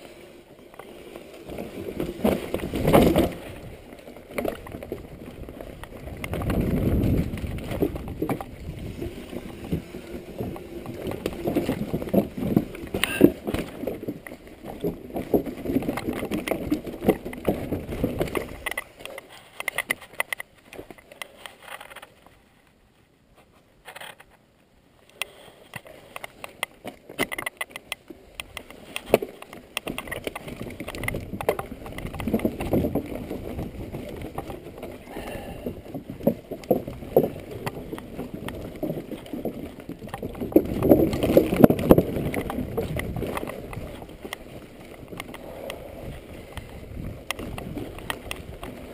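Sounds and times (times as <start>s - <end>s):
bike rattling over bumps: 0.0s - 22.3s, 25.3s - 48.9s
bike tyres rumbling: 0.0s - 22.5s, 25.2s - 48.9s.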